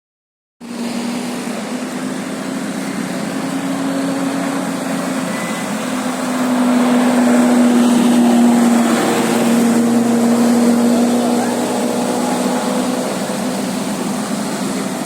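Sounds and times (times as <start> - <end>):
bus engine running: 0.6 - 15.0
road noise: 0.6 - 15.0.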